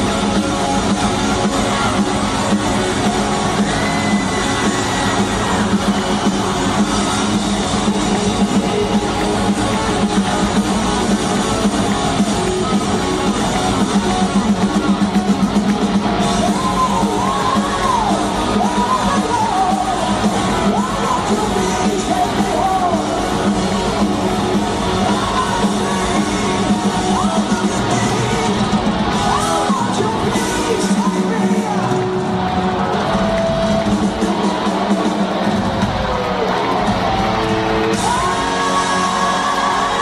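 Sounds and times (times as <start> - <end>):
crowd singing and yelling: 0.0 - 40.0
fast drums: 0.0 - 40.0
hard rock band playing live: 0.0 - 40.0.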